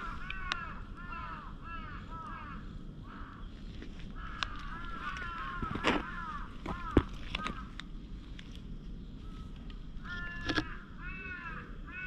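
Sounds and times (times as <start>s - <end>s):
crow cawing: 0.0s - 3.5s, 4.1s - 7.8s, 9.3s - 12.0s.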